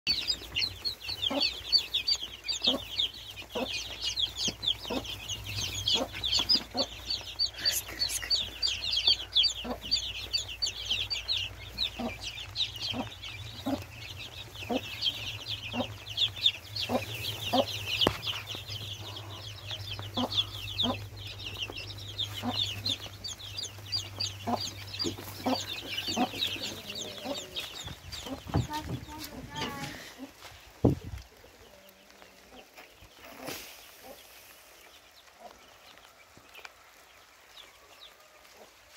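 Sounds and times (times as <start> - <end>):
hen clucking: 0.1 - 35.7
chicks peeping: 0.1 - 38.9.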